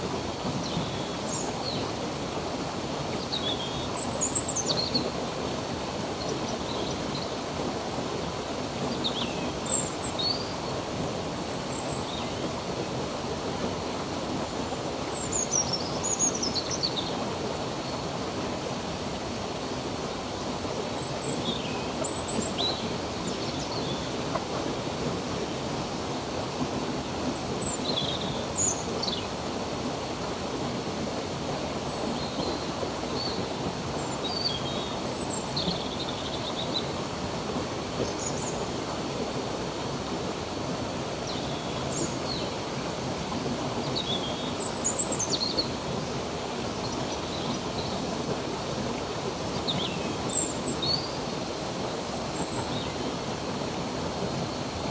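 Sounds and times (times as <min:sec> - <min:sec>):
stream rushing: 0:00.0 - 0:54.9.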